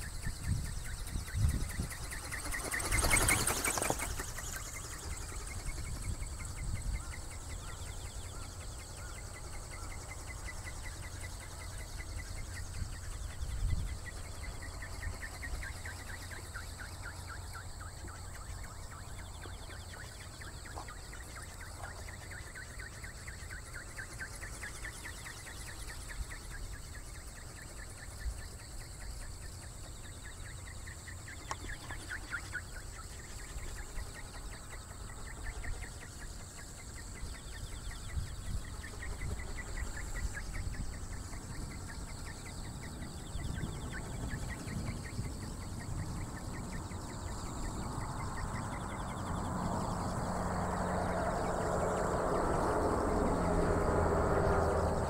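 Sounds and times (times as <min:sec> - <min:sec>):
wind rumbling on microphone: 0:00.0 - 0:22.0, 0:33.0 - 0:55.0
faint high whine: 0:00.0 - 0:55.0.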